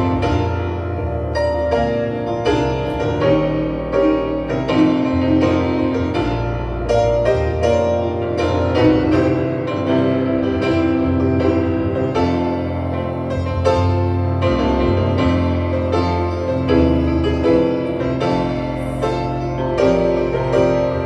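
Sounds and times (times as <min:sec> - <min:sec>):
piano chords over bass notes: 0:00.0 - 0:21.0.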